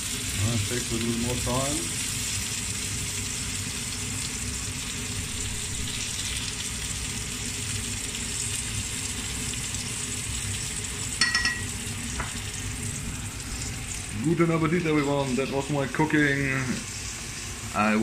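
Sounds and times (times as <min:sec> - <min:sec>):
fish frying in hot oil: 0:00.0 - 0:18.0.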